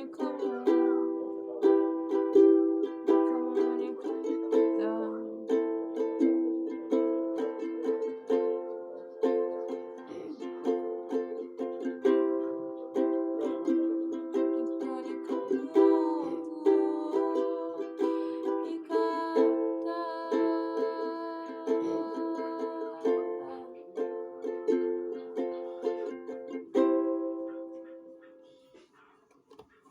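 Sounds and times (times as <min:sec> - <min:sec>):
ukulele strumming chords: 0:00.0 - 0:28.1.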